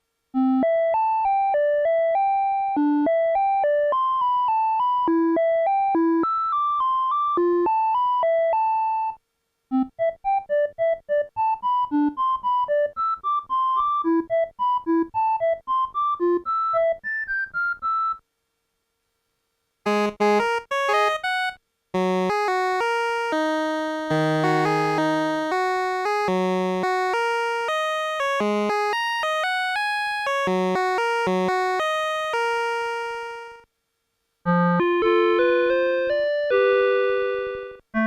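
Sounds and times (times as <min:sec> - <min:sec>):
mini keyboard melody: 0:00.4 - 0:18.2, 0:19.9 - 0:33.7, 0:34.5 - 0:38.0.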